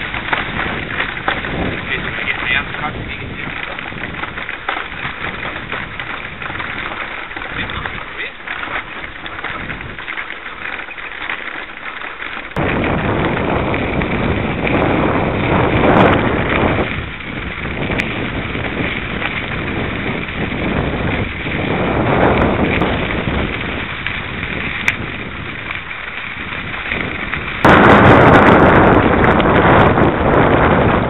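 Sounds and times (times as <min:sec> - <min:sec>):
wind buffeting microphone: 0:00.0 - 0:11.3, 0:11.9 - 0:31.0
tyres crackling over dirt: 0:00.0 - 0:31.0.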